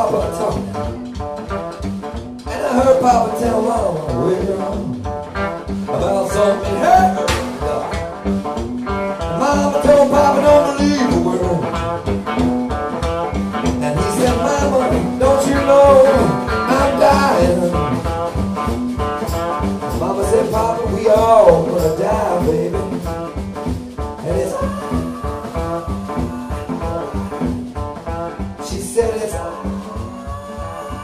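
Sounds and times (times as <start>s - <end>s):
man singing: 0.0s - 1.1s, 2.4s - 8.5s, 9.1s - 12.1s, 13.5s - 18.4s, 19.2s - 31.0s
live blues-rock band: 0.0s - 31.0s.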